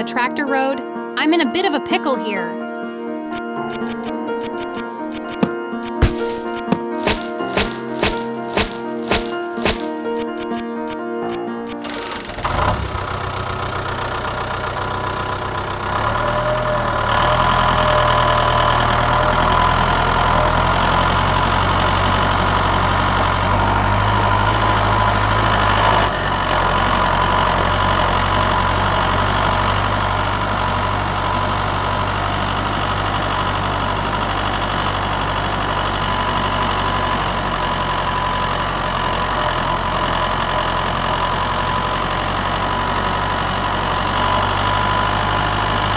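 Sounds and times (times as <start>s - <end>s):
tractor engine running: 3.6s - 10.6s, 11.7s - 45.9s.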